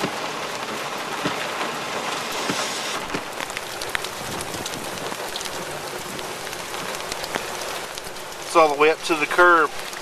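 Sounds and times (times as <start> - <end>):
heavy rain hiss: 0.0 - 10.0
rain drops tapping: 0.0 - 10.0.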